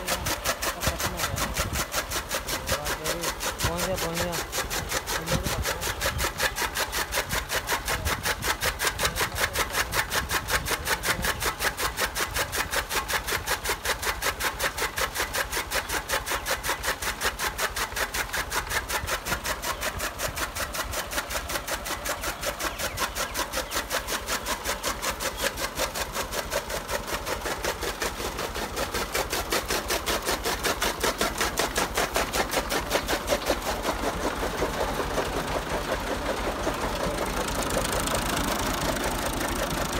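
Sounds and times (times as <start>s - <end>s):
chaff cutter blades clattering: 0.0s - 39.9s
tractor engine running: 0.0s - 39.9s.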